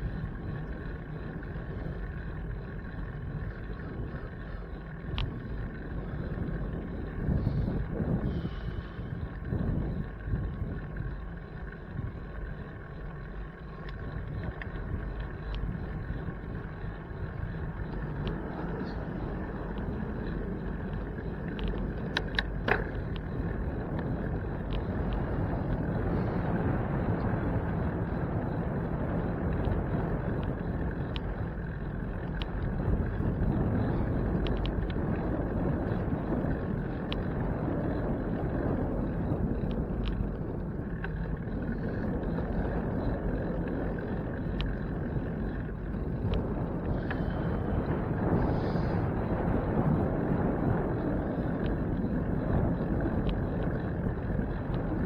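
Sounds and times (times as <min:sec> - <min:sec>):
bicycle clicks and rattles: 0:00.0 - 0:55.0
wind and road noise: 0:00.0 - 0:55.0.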